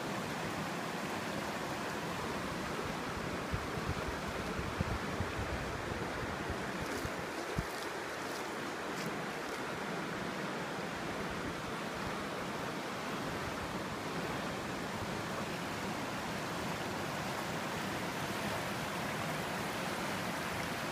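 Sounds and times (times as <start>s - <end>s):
river water rushing: 0.0s - 20.9s.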